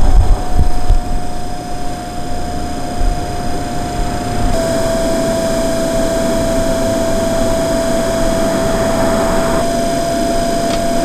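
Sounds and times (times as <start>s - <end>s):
heater blower fan whine: 0.0s - 11.0s.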